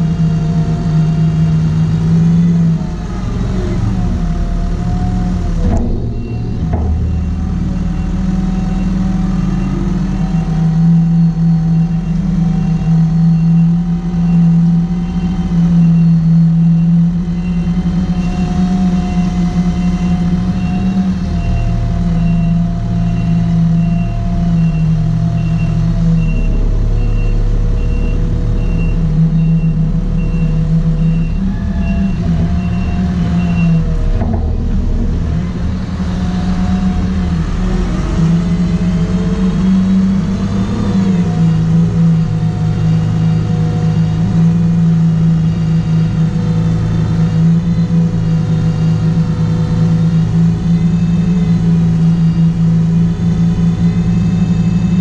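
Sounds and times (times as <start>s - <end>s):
diesel engine running under load: 0.0s - 55.0s
reversing alarm beeping: 3.8s - 34.8s, 39.4s - 55.0s.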